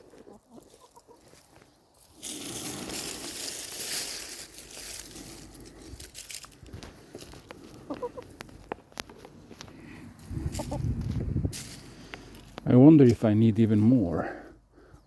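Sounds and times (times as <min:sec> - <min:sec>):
close rustling and crunching: 0:00.0 - 0:15.0.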